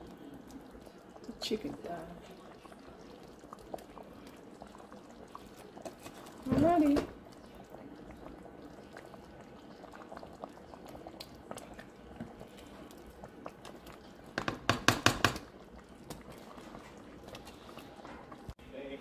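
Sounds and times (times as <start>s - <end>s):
spoon moving through stew: 0.0s - 18.6s
stew bubbling: 0.0s - 18.6s.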